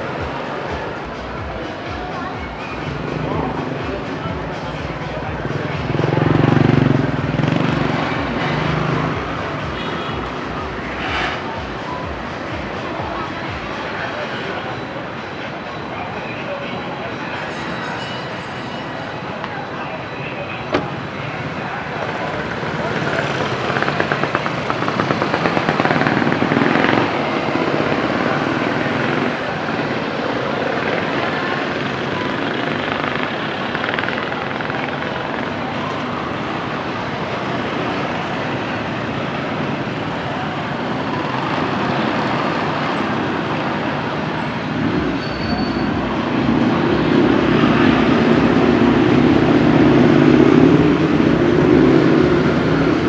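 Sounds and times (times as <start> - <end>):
loud engine rumble: 0.0 - 17.4, 18.8 - 53.0
street traffic: 0.0 - 53.0.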